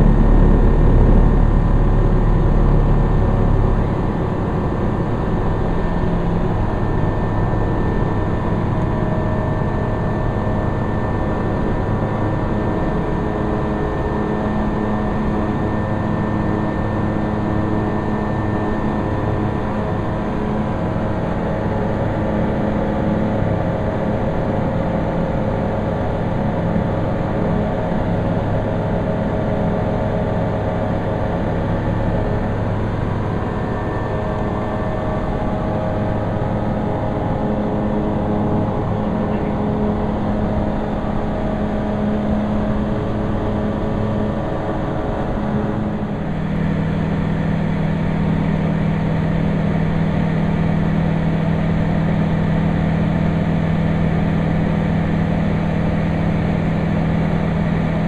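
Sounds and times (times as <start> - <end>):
aircraft engine and propeller droning: 0.0 - 58.0.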